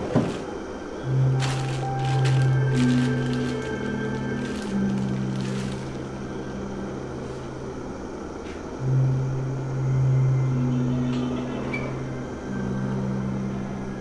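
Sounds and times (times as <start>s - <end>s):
low dark synth drone: 0.6s - 14.0s.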